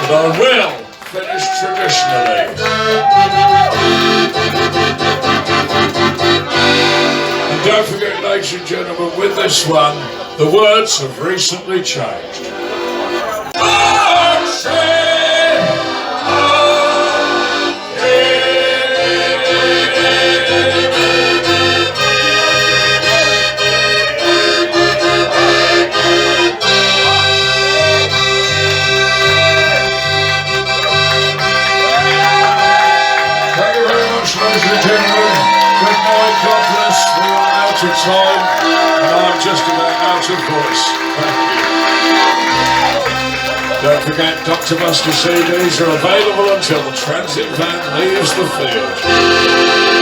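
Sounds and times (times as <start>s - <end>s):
accordion playing lively tune: 0.0s - 50.0s.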